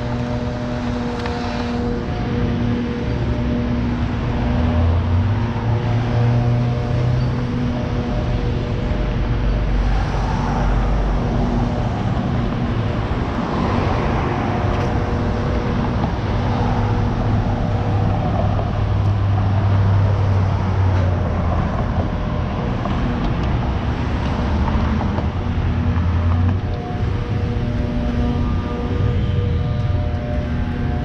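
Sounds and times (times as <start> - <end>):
cars passing: 0.0 - 31.0
steady low traffic hum: 0.0 - 31.0.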